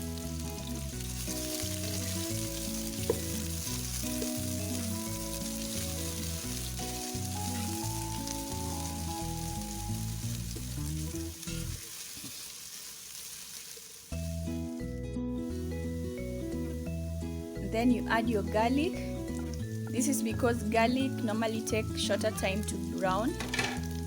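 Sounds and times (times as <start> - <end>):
background music: 0.0 - 11.4, 14.2 - 24.0
onions sizzling in oil: 0.0 - 24.0.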